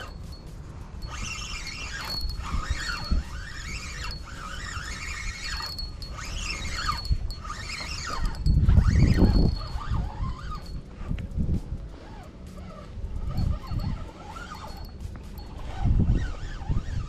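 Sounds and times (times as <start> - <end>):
fishing reel whining: 0.0 - 17.0.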